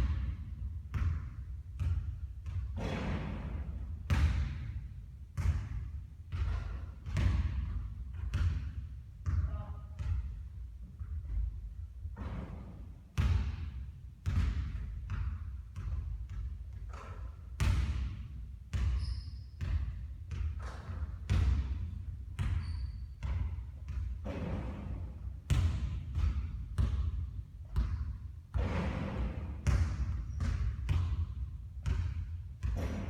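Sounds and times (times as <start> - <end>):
basketballs bouncing on court: 0.0 - 33.0.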